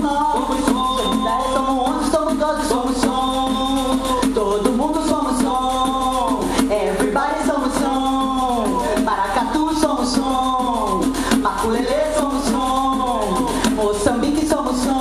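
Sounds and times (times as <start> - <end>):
hand percussion strokes: 0.0 - 15.0
person singing folk melody: 0.0 - 15.0.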